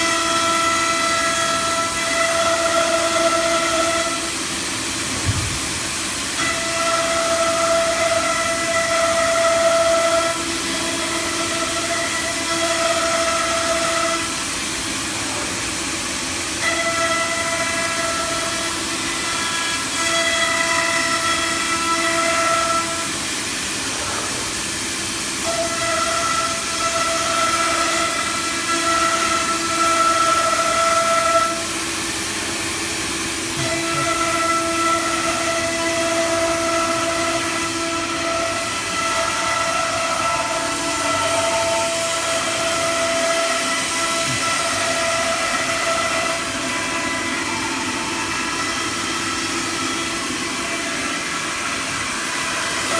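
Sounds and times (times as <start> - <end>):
router spindle whine: 0.0 - 52.9.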